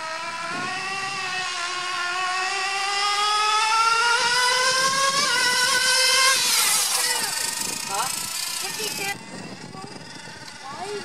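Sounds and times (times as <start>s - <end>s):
small engine whining at full throttle: 0.0s - 11.0s.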